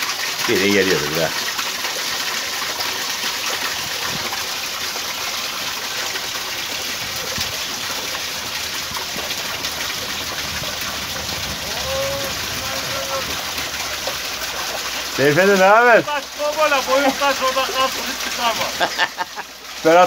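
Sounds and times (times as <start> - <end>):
water splashing on wooden paddles: 0.0 - 20.0.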